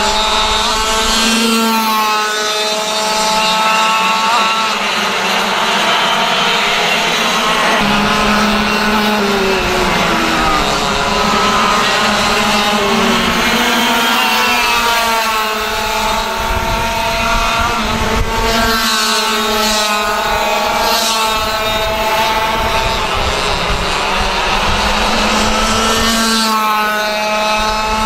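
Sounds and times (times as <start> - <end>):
kart engines racing: 0.0 - 28.0.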